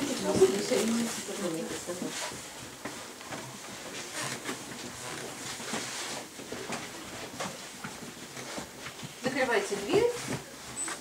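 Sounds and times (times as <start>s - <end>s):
footsteps on wooden floor: 0.0s - 11.0s.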